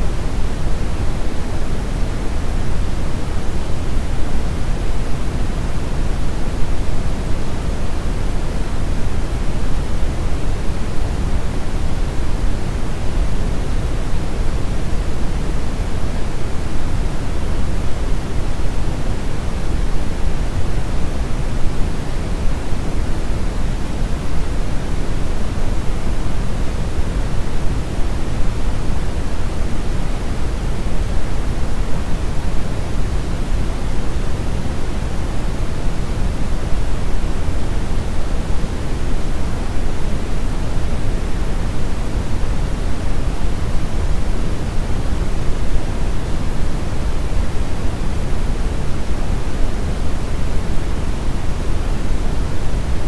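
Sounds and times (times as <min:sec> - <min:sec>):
brown noise hiss: 0:00.0 - 0:53.0.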